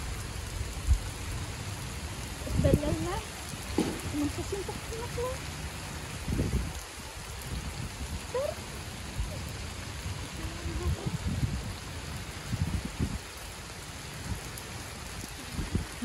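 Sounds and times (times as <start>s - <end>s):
rain on paved walkway: 0.0s - 16.0s
wind buffeting microphone: 2.3s - 5.4s, 6.0s - 16.0s.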